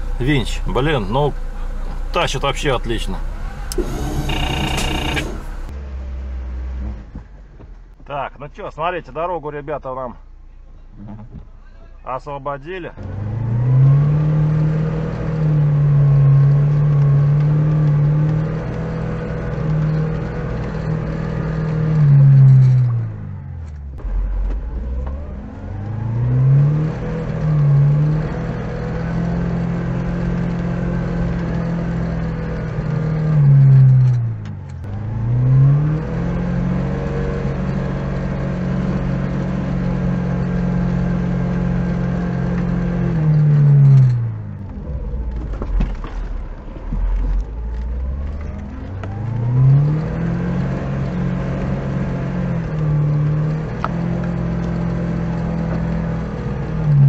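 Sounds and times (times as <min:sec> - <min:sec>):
car engine revving: 0:00.0 - 0:07.0, 0:13.0 - 0:57.0.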